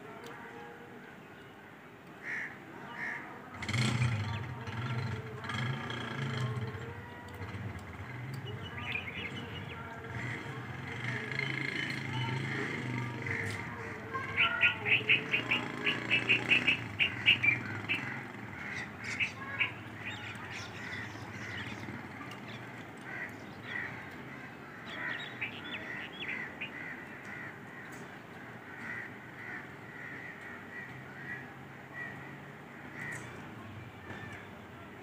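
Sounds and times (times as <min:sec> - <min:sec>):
birds calling: 0:02.1 - 0:34.6.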